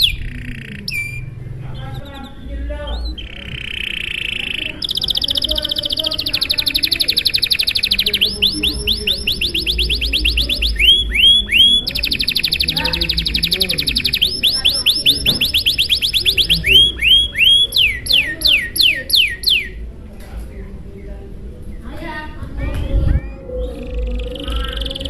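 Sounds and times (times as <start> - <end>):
canary singing trills: 0.0 - 22.2, 23.1 - 25.0.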